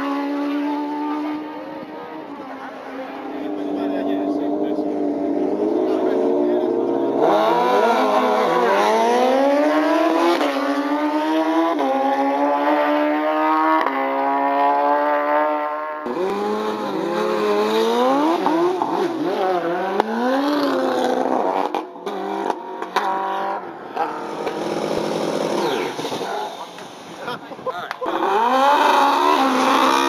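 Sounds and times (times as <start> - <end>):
drag racing motorcycles accelerating: 0.0 - 30.0.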